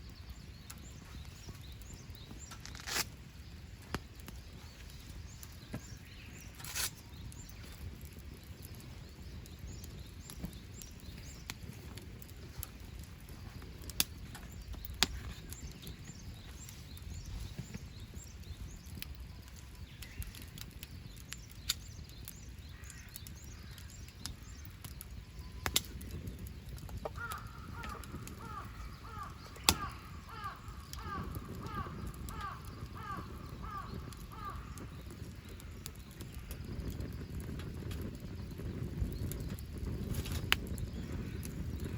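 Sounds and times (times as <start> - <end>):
campfire crackling and popping: 0.0 - 41.9
faint distant birdsong: 0.0 - 41.9.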